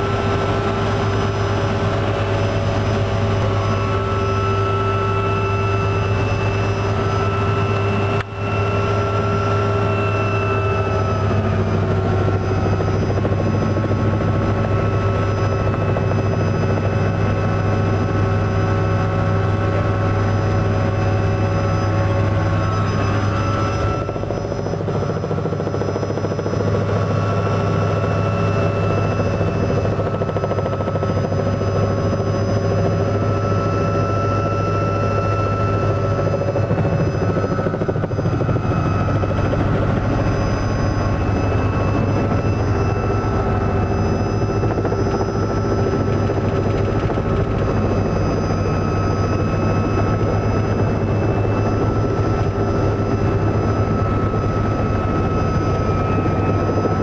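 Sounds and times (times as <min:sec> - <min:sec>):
helicopter drone: 0:00.0 - 0:57.0
high turbine whine: 0:00.0 - 0:57.0.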